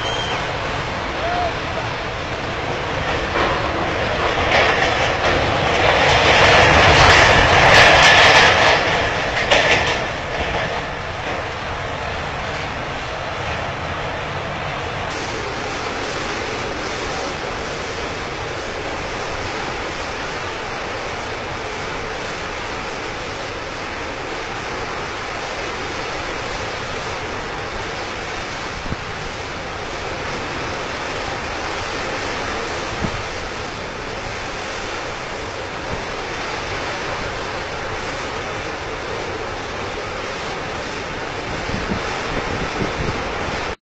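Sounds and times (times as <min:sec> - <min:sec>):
roaring gas and flame jet: 0:00.0 - 0:43.8.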